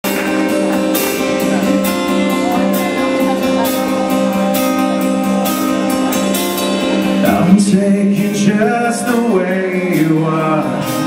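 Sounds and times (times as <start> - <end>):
live band instrumental: 0.0 - 11.0
strummed acoustic guitar: 0.0 - 11.0.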